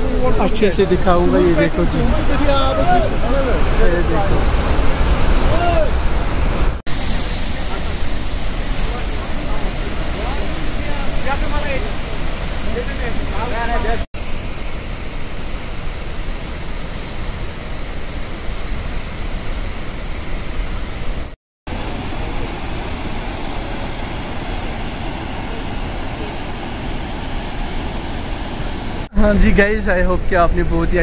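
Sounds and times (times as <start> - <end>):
waterfall and river rushing: 0.0 - 29.1.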